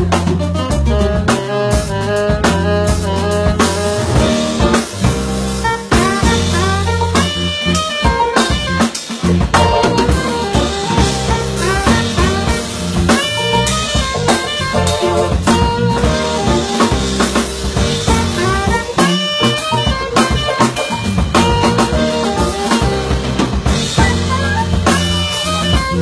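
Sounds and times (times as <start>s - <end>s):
drum hits: 0.0s - 26.0s
live jazz band playing: 0.0s - 26.0s.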